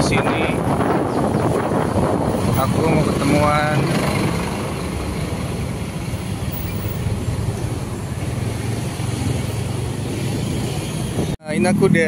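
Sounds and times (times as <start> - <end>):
city traffic noise: 0.0 - 12.0
bus engine close by: 0.4 - 12.0.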